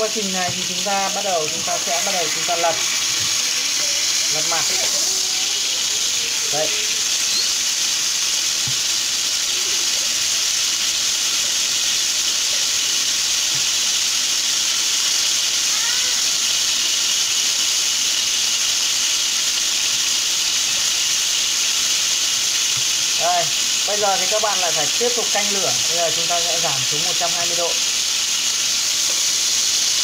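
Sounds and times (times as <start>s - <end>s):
steak sizzling in a pan: 0.0s - 30.0s.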